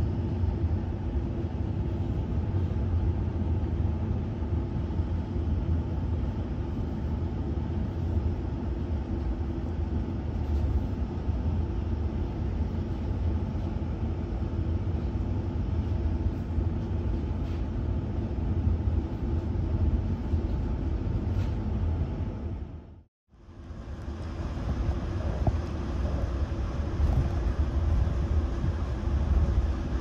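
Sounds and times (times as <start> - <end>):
train coach rumbling in motion: 0.0 - 30.0.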